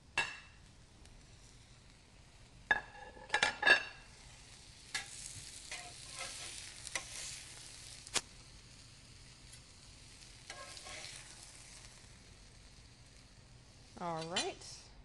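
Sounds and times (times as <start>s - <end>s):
fish sizzling on a grill pan: 0.0s - 14.9s.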